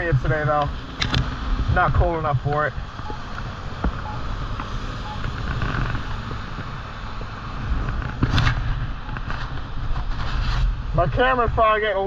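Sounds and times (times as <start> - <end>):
wind buffeting microphone: 0.0 - 11.8
wet road noise: 0.0 - 12.0.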